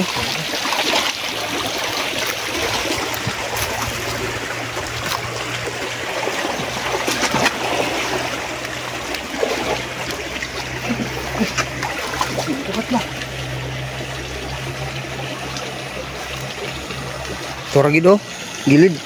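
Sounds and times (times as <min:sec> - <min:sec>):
stream water trickling and splashing: 0:00.0 - 0:19.0
steady low hum: 0:01.2 - 0:19.0.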